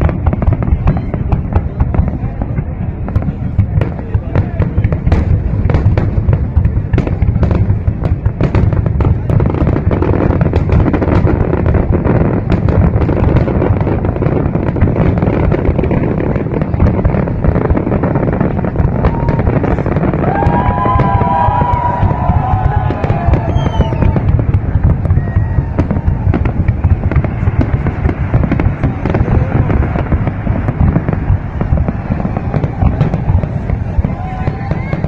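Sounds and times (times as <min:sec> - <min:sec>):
fireworks booming: 0:00.0 - 0:35.0
fireworks crackling pops: 0:00.0 - 0:35.0.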